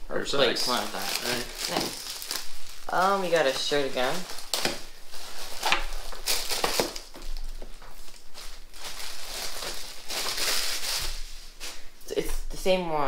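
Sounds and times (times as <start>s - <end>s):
plastic bag crinkling: 0.4s - 11.7s.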